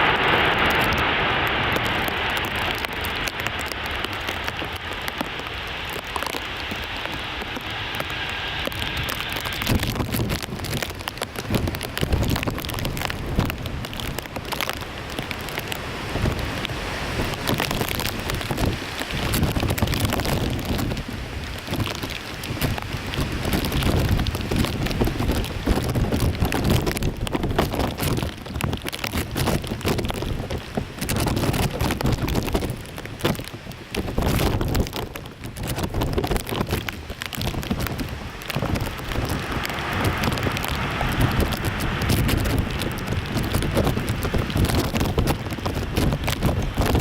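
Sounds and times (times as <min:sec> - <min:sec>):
gusty wind buffeting microphone: 0:00.0 - 0:47.0.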